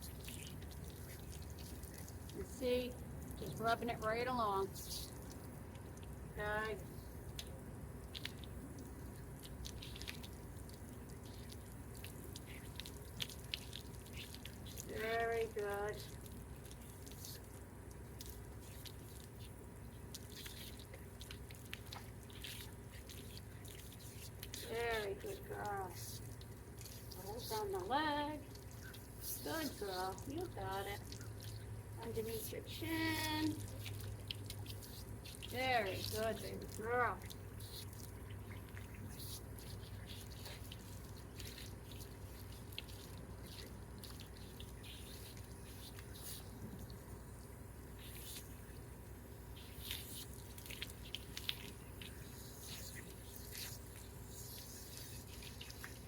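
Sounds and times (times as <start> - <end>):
hose water running through fur: 0.0 - 56.0
water drips and splashes: 0.0 - 56.0.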